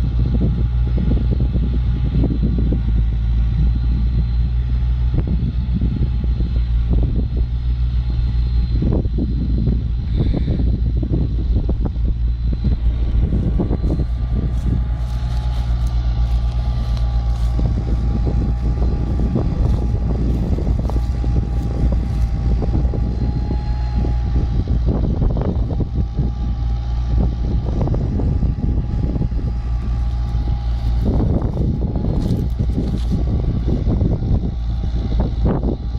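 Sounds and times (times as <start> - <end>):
diesel tractor engine running: 0.0 - 35.9
faint steady whine: 0.0 - 35.9.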